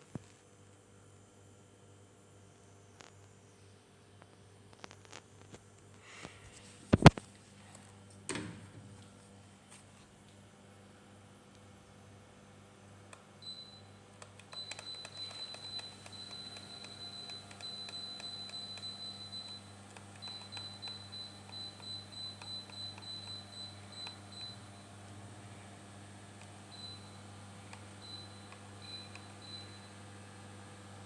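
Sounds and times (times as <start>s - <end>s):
air conditioner humming: 6.0s - 31.0s.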